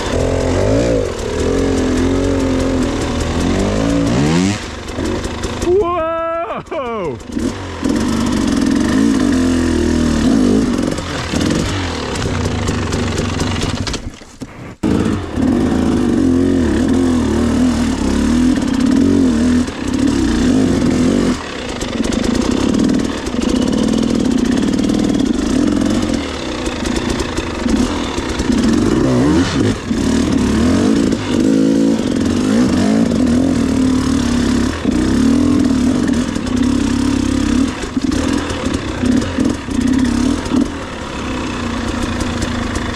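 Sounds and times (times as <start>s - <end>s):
dirt bike engine revving: 0.0s - 14.0s, 14.8s - 42.9s.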